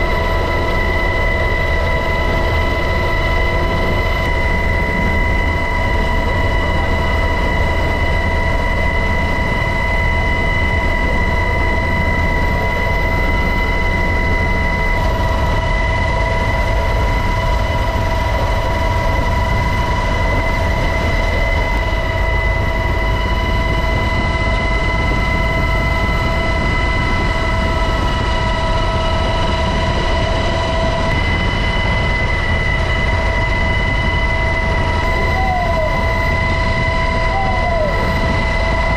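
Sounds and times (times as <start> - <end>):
helicopter whine and rumble: 0.0 - 38.9.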